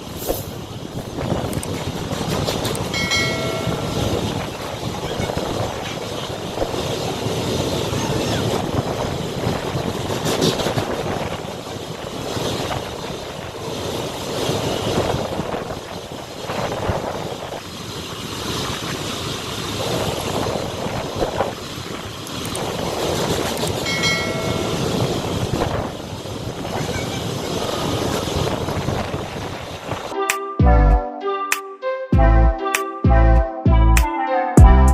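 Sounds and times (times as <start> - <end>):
train rumbling and rattling on rails: 0.0 - 30.2.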